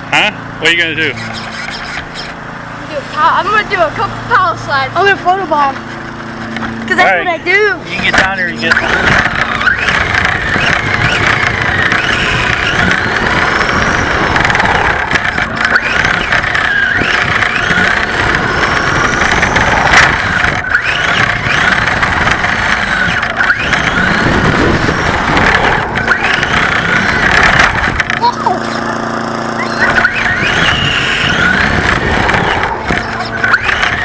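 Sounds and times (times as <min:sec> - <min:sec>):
toy car motor whining: 0:00.6 - 0:05.8, 0:06.4 - 0:34.0.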